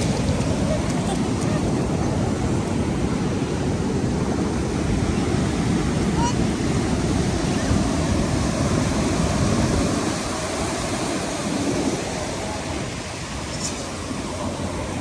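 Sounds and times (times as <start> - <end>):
rough sea surf breaking: 0.0 - 15.0.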